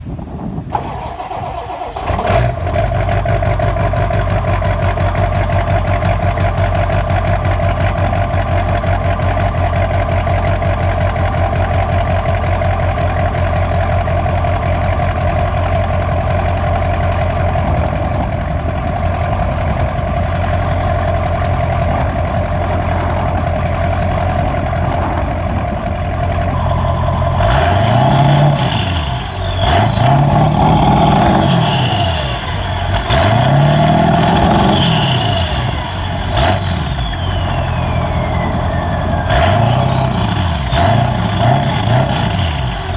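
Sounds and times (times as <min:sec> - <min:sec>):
engine whine: 0:00.0 - 0:42.9
diesel engine idling: 0:00.6 - 0:42.9
engine revving: 0:00.7 - 0:42.9.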